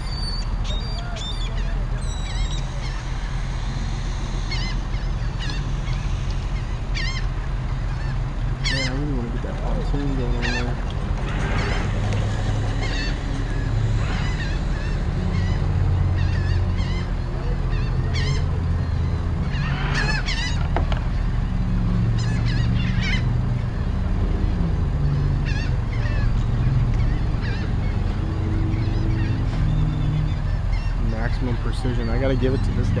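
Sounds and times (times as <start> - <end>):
gulls squawking: 0.0 - 24.1, 24.9 - 33.0
idling boat engines: 0.0 - 33.0.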